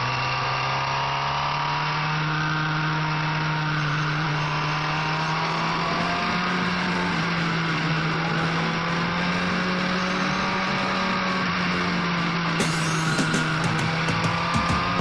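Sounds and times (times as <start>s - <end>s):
motorcycle engine pulling: 0.0s - 15.0s.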